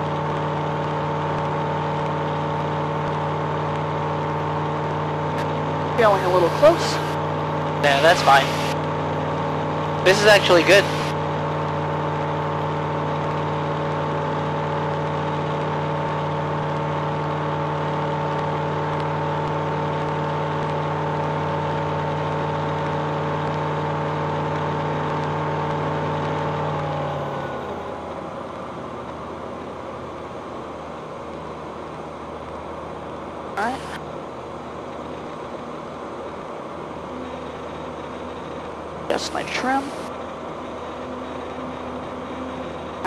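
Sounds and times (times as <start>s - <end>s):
aircraft engine and propeller droning: 0.0s - 43.0s.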